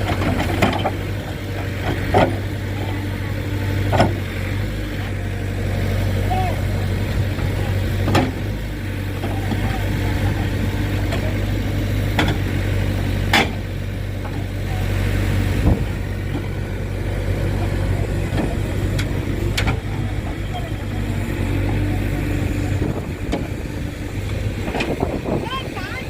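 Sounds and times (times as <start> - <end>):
diesel engine idling low: 0.0 - 26.0.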